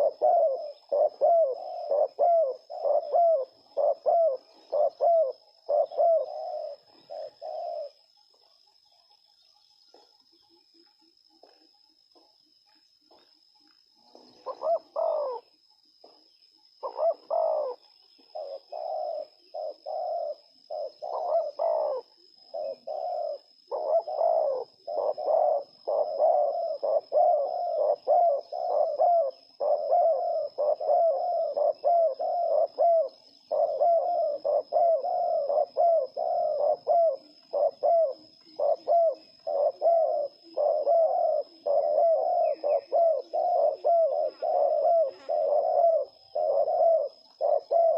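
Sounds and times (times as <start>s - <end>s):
dove cooing: 0.0s - 9.0s, 13.1s - 47.9s.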